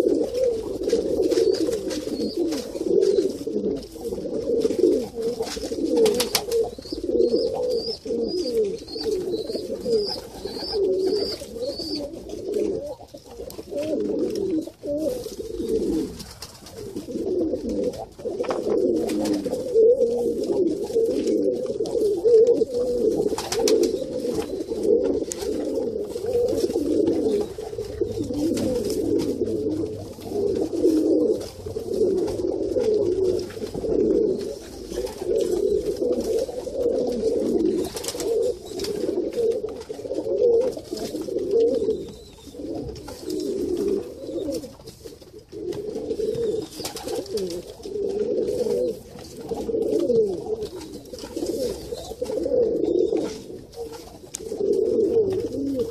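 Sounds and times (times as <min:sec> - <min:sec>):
pigeons cooing: 0:00.0 - 0:55.9.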